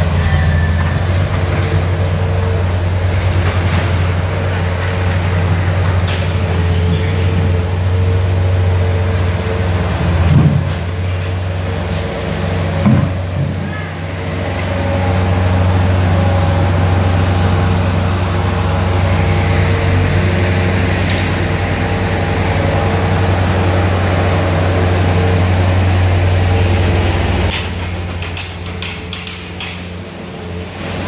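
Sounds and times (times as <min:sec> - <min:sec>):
large engine humming: 0:00.0 - 0:31.0.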